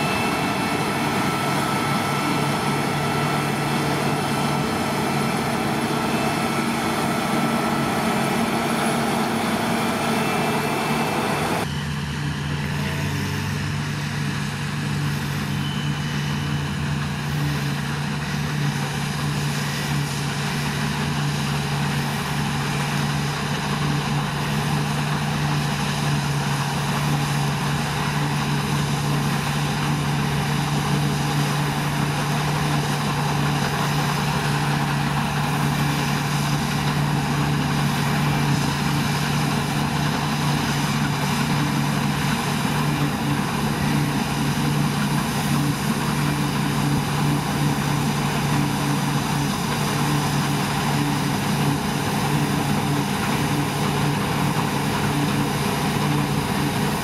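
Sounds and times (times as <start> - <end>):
combine harvester engine drone: 0.0 - 57.0
tractor running: 0.0 - 57.0.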